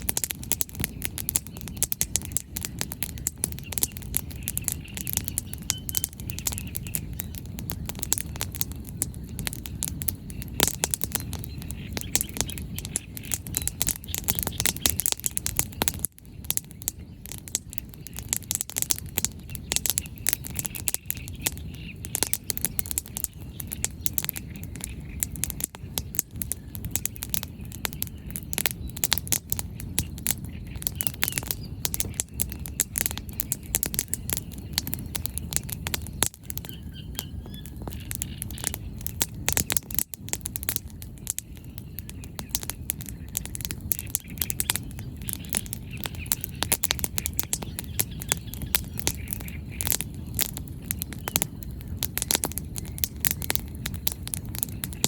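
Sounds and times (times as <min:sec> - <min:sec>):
wood fire crackling: 0:00.0 - 0:55.0
bird chirps: 0:00.7 - 0:39.9, 0:41.4 - 0:51.6.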